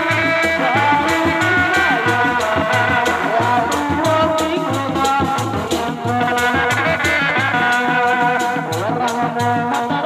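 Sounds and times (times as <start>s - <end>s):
drum ensemble beat: 0.0s - 10.0s
reed pipe melody: 0.0s - 10.0s.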